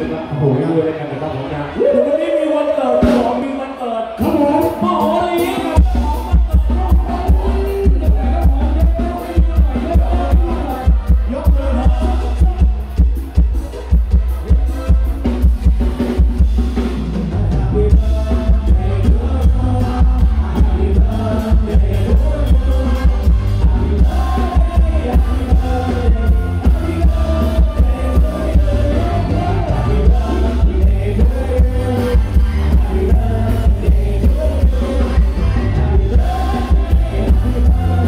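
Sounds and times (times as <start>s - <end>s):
drum kit beat: 4.2s - 38.0s
men singing: 4.2s - 38.0s
heavy electric bass: 5.8s - 38.0s.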